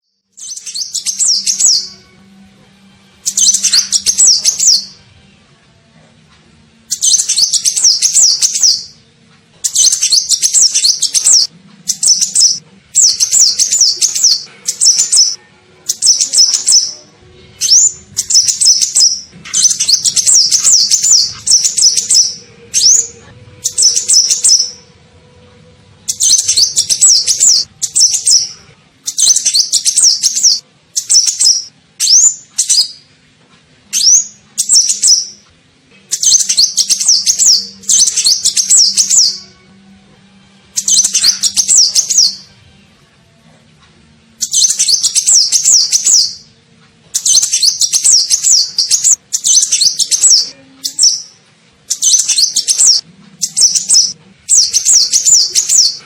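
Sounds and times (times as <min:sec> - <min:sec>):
high twittering bird song: 0:00.0 - 0:02.2, 0:03.1 - 0:05.1, 0:06.8 - 0:25.0, 0:26.0 - 0:33.1, 0:33.9 - 0:39.6, 0:40.7 - 0:42.6, 0:44.4 - 0:56.0.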